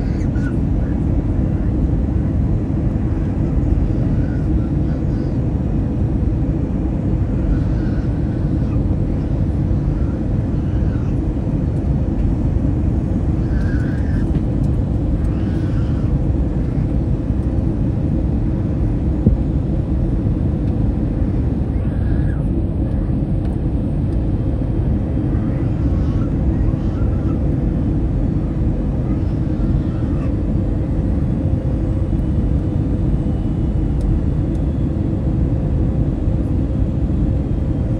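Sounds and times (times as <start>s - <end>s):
airliner cabin roar: 0.0s - 37.9s
faint constant hum: 0.0s - 37.9s.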